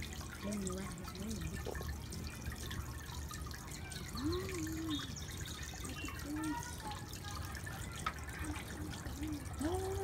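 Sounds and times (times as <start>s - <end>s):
fountain water trickling and dripping: 0.0s - 10.0s.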